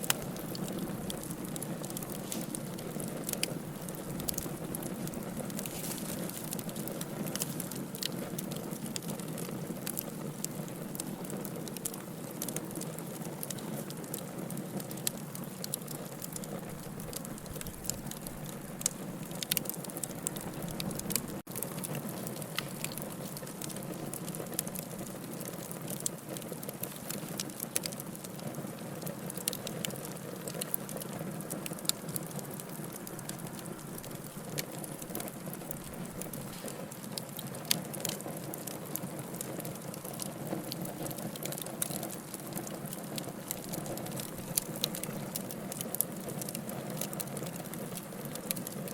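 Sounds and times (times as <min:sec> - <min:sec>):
fire crackling: 0:00.0 - 0:48.9.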